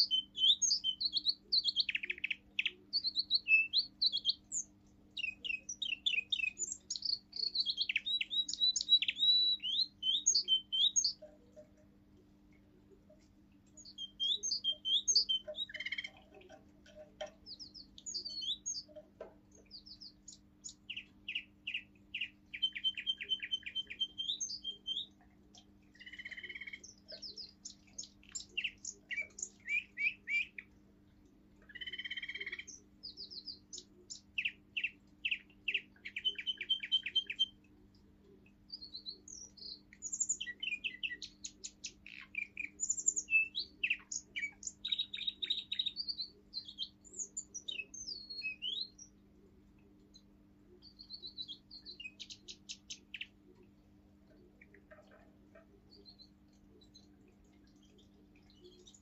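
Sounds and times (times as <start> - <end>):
canary singing trills: 0.0 - 12.2, 12.9 - 59.0.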